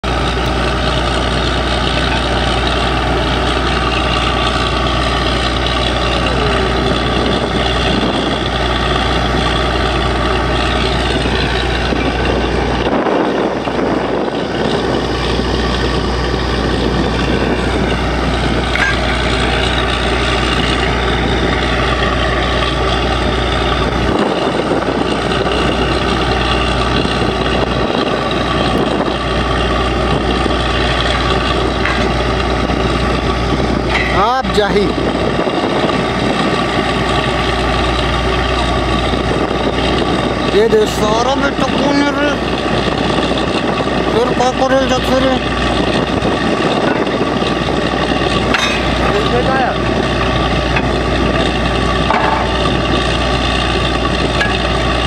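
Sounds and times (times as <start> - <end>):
drilling rig engine drone: 0.0 - 55.0.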